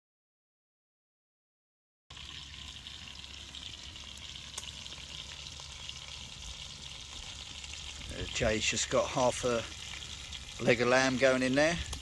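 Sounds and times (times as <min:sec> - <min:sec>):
meat sizzling in a pot: 0:02.1 - 0:12.0
wood fire crackling: 0:02.1 - 0:12.0.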